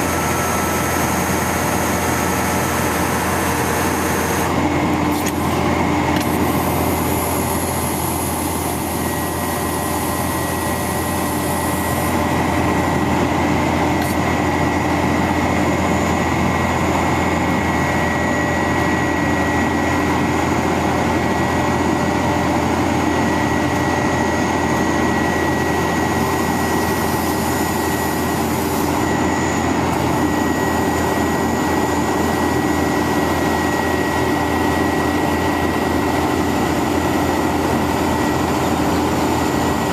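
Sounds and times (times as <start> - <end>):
high whine: 0.0 - 39.9
truck engine hum: 0.0 - 39.9.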